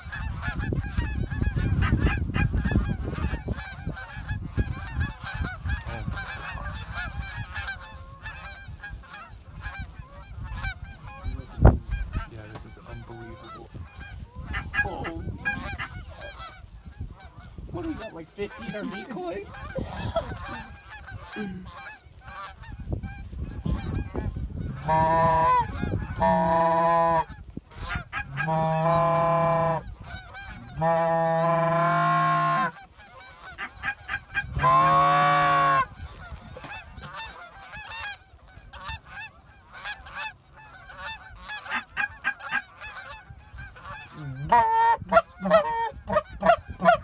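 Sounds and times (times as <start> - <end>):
geese honking: 0.0 - 47.0.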